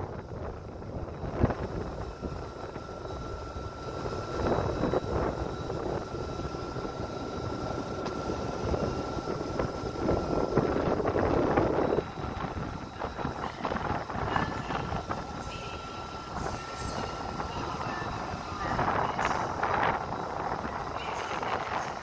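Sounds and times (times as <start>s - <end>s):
electric train high whine: 0.0s - 22.0s
wind buffeting microphone: 0.0s - 22.0s.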